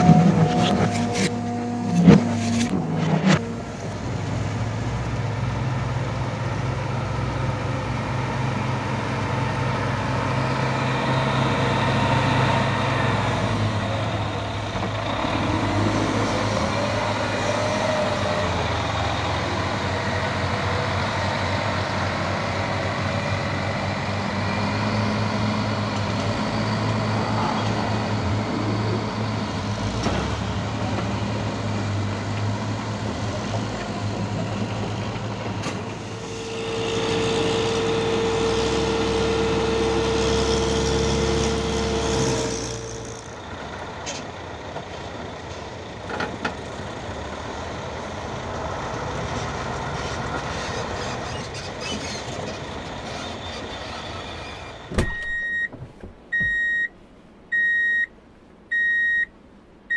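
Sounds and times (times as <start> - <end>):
wheel loader diesel engine: 0.0 - 59.9.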